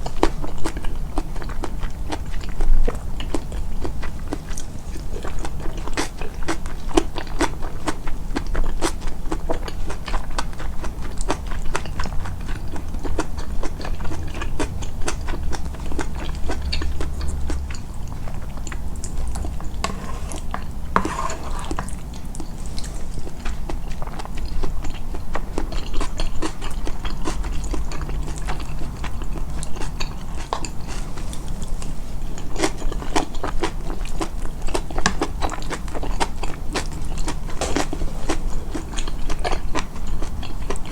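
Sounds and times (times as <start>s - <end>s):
close chewing and biting food: 0.0s - 40.9s.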